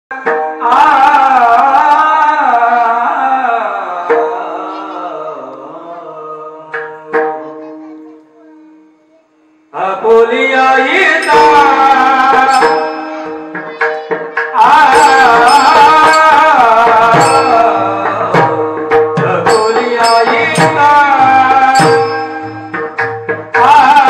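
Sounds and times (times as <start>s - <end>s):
man singing devotional melody: 0.1s - 24.0s.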